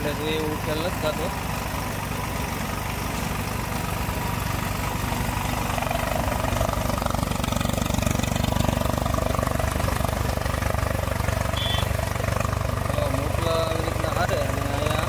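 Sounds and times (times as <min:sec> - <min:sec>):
thresher drum churning: 0:00.0 - 0:15.0
tractor engine running: 0:00.0 - 0:15.0.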